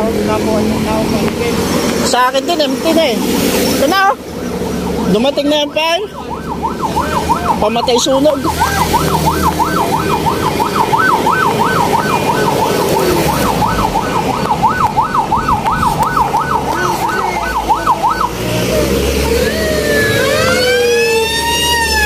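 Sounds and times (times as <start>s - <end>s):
truck engine rumbling: 0.0s - 22.0s
fire truck siren: 4.3s - 22.0s.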